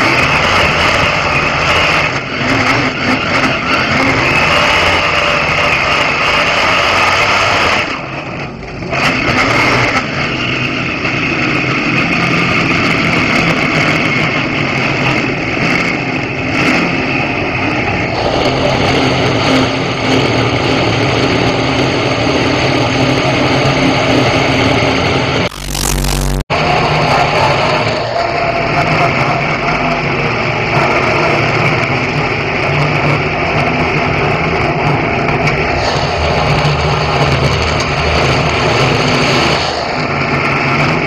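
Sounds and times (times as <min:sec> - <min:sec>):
race car engine under load: 0:00.0 - 0:41.0.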